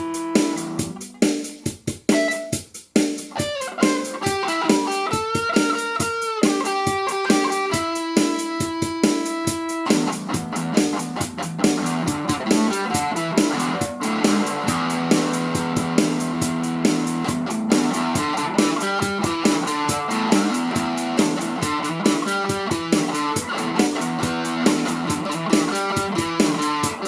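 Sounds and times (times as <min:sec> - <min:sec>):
electric guitar playing: 0:00.0 - 0:01.3, 0:02.1 - 0:02.7, 0:03.3 - 0:27.0
steady beat: 0:00.0 - 0:27.0.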